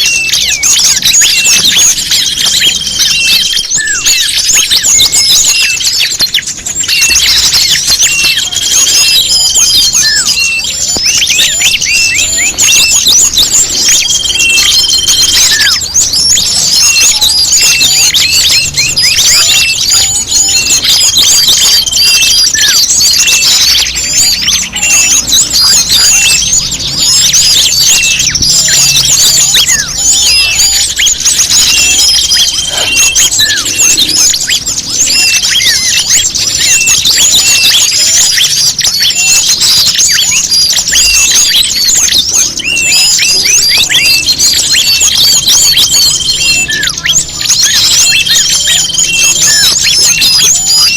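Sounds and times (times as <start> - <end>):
songbirds chirping chorus: 0.0 - 50.9.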